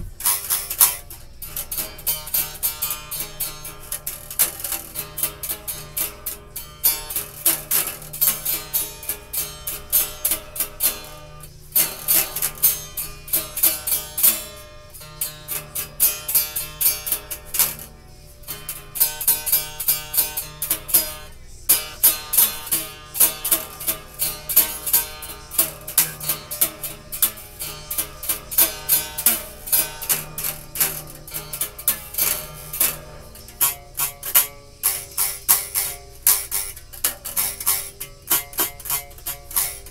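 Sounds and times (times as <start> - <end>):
acoustic guitar plucked notes: 0.0 - 39.9.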